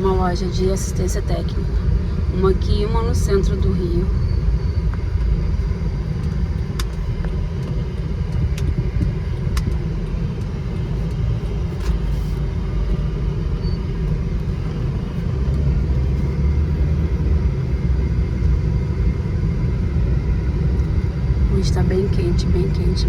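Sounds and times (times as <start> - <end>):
air conditioning running: 0.0 - 23.0
car road rumble inside cabin: 0.0 - 23.0.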